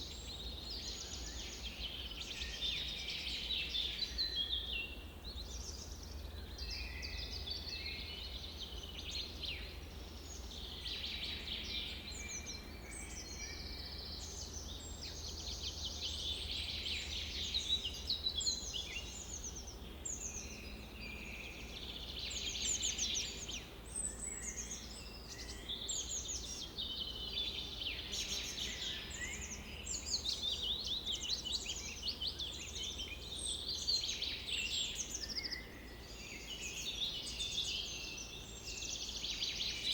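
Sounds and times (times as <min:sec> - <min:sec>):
many birds chirping: 0:00.0 - 0:39.9.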